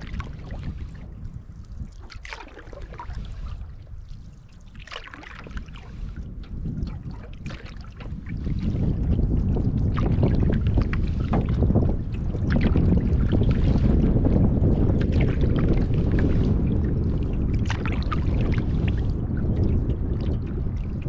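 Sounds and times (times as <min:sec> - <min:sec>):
paddle splashing water: 0:00.0 - 0:21.0
wind on microphone: 0:00.0 - 0:21.0.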